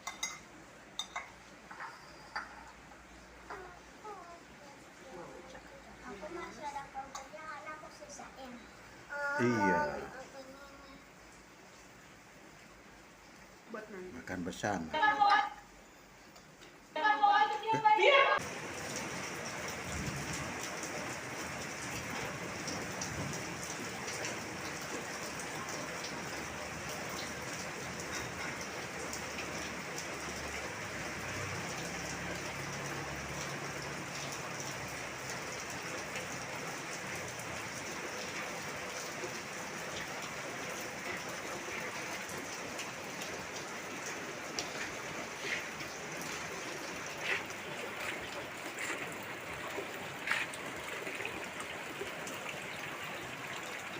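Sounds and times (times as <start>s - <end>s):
water drips and splashes: 0.0s - 9.0s, 18.1s - 53.9s
steady rain hiss: 0.0s - 53.9s.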